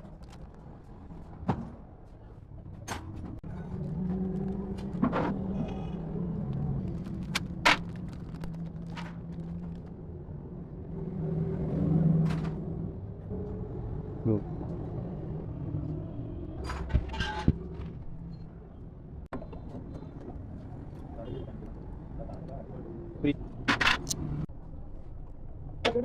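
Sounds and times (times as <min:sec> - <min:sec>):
low engine hum: 0:02.5 - 0:25.8.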